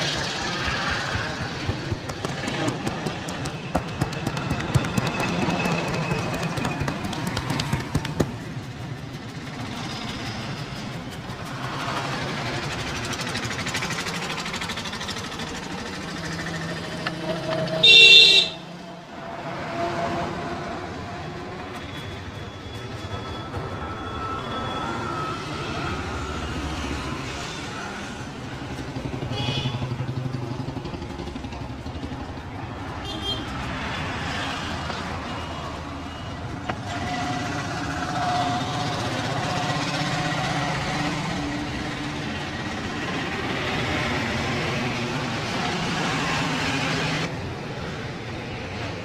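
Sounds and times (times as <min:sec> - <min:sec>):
passing vehicle engines: 0:00.0 - 0:49.0
road noise: 0:00.0 - 0:49.0.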